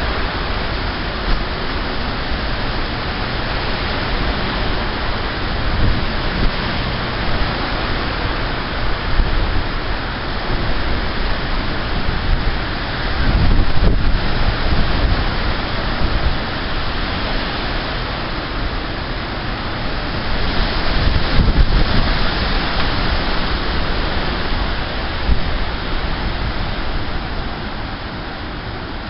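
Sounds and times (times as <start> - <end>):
strong wind gusts: 0.0 - 29.0
wind buffeting microphone: 0.0 - 29.0.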